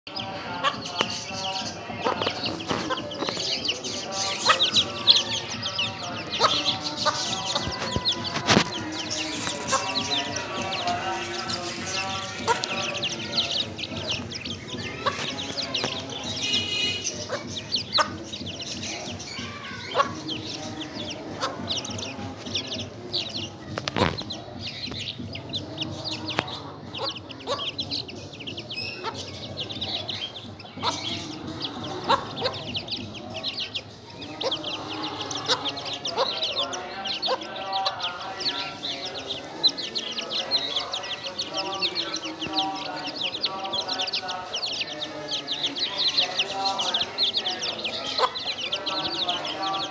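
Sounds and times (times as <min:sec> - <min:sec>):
chicks cheeping: 0:00.0 - 0:49.9
hen clucking: 0:00.1 - 0:49.9.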